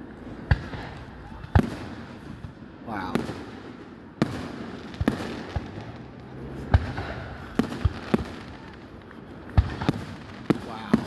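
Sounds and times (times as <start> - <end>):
aerial fireworks booming: 0.4 - 11.0.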